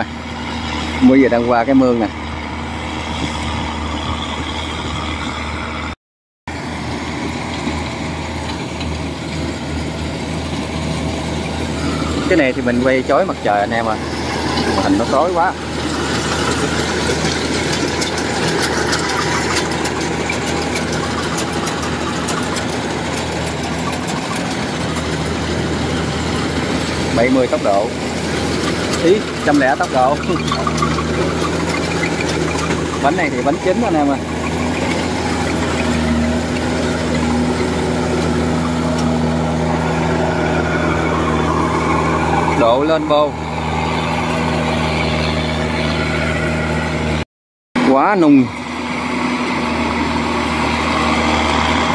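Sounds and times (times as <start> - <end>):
harvester diesel engine running: 0.0 - 47.2, 47.8 - 51.9.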